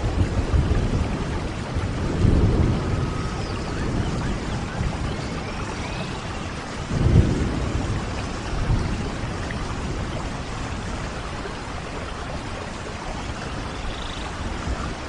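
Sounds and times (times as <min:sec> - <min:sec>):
steady rain: 0:00.0 - 0:15.0
thunder rumble: 0:00.0 - 0:15.0.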